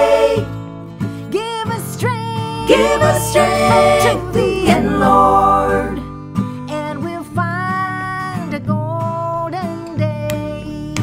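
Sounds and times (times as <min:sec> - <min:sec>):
acoustic guitar: 0:00.0 - 0:11.0
woman singing: 0:01.3 - 0:11.0.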